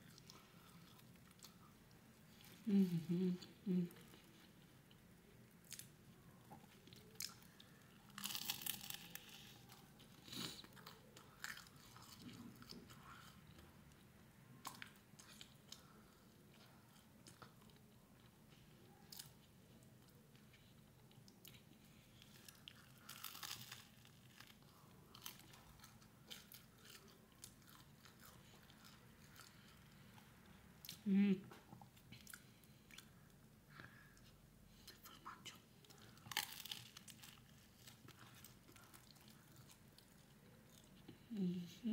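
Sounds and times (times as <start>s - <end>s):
person chewing crunchy bread: 0.0s - 2.7s, 3.9s - 31.0s, 31.7s - 35.1s, 35.7s - 41.3s.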